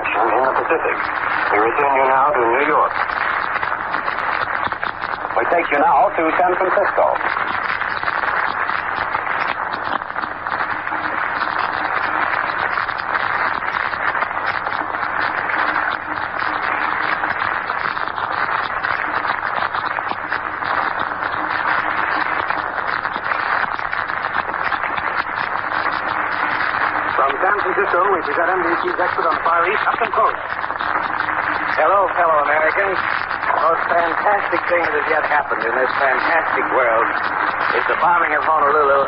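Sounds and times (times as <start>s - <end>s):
radio static hiss: 0.0s - 39.0s.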